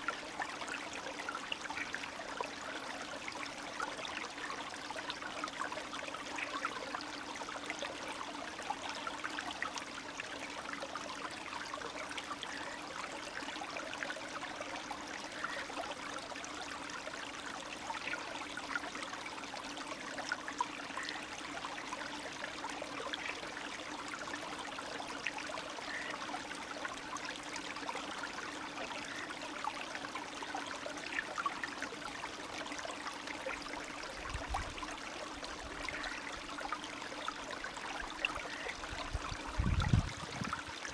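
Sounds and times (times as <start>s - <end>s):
stream babbling with small splashes: 0.0s - 40.9s.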